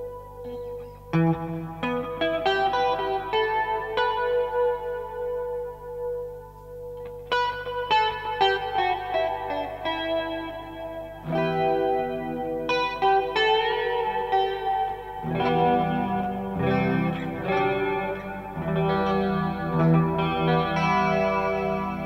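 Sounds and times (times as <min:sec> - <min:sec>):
electric guitar with chorus effect: 0:00.0 - 0:22.0.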